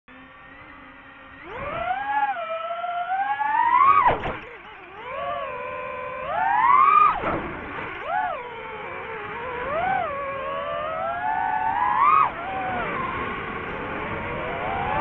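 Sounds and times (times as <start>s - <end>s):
drone motors whining: 0.1s - 15.0s.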